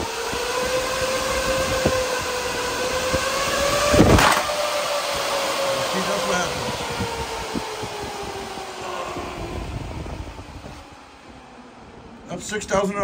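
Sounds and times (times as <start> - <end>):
cooling fans running: 0.0 - 13.0.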